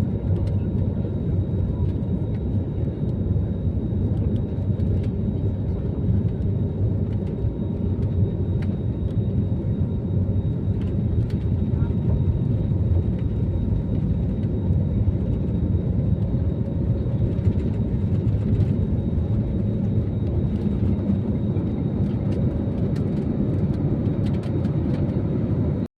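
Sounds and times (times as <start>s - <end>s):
aeroplane engines rumbling: 0.0s - 25.9s.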